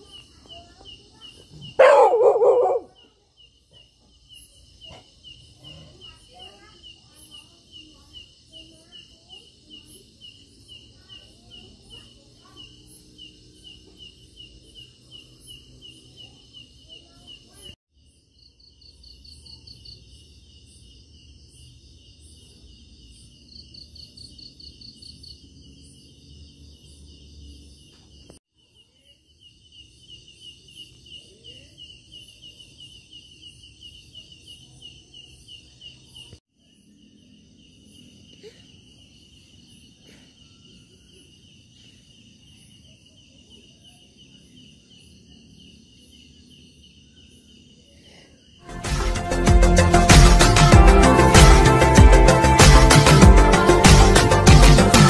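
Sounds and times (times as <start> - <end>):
crickets chirping: 0.0 - 48.7.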